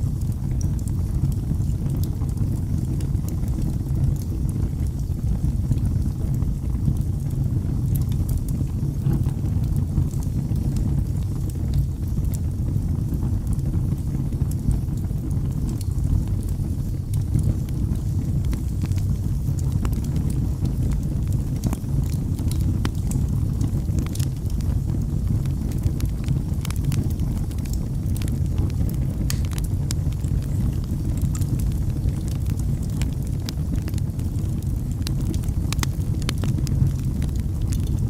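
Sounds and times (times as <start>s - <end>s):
fire crackling: 0.0s - 38.0s
wood fire rumbling: 0.0s - 38.0s.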